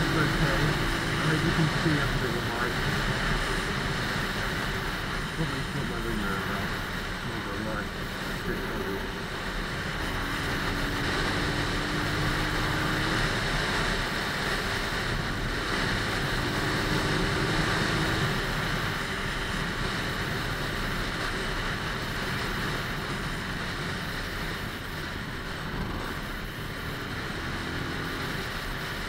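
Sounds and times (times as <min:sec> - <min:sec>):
motorcycle engine running: 0:00.0 - 0:29.0
wind rushing over microphone: 0:00.0 - 0:29.0.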